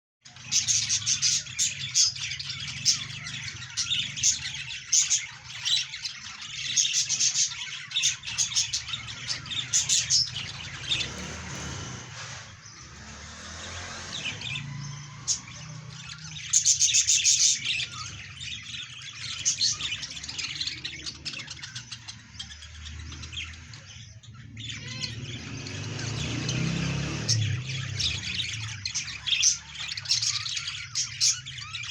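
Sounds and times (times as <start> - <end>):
parrots chirping and squawking: 0.2 - 31.9.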